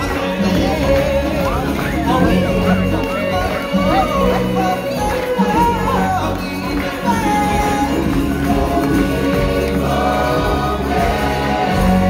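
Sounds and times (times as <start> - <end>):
choir singing: 0.0 - 12.0
instrumental accompaniment: 0.0 - 12.0
percussion: 0.0 - 12.0.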